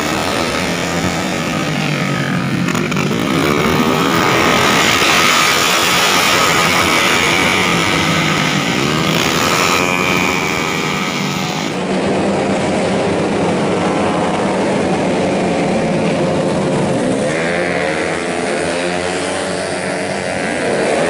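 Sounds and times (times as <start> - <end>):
racing scooters revving past: 0.0 - 21.0.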